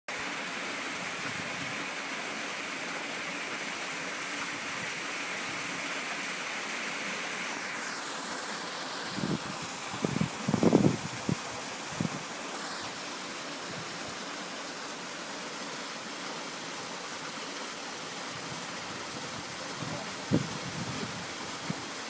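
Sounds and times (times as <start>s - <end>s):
waterfall splashing into pool: 0.1s - 22.0s.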